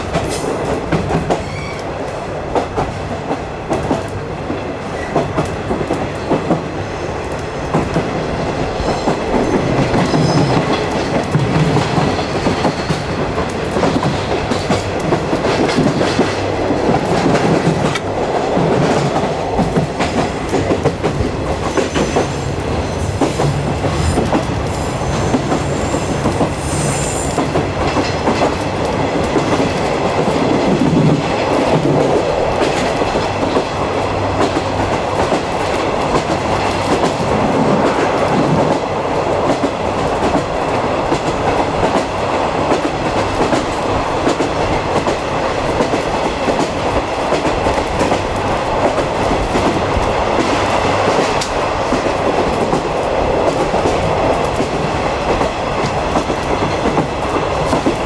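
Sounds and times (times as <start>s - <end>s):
train wheels rumbling and clacking: 0.0s - 58.0s.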